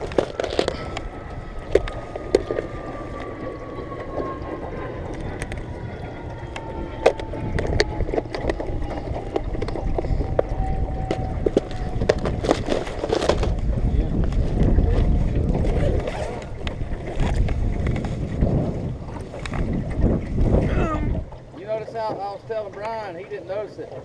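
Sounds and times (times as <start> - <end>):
small boat motor whining: 0.0 - 24.0
water noise: 0.0 - 24.0.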